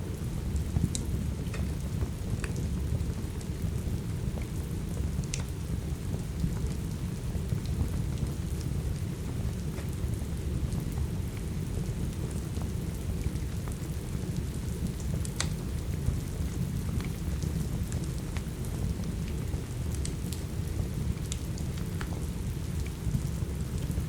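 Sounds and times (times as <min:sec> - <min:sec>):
steady rain rumble: 0:00.0 - 0:24.0
wood fire crackling and popping: 0:00.1 - 0:24.0.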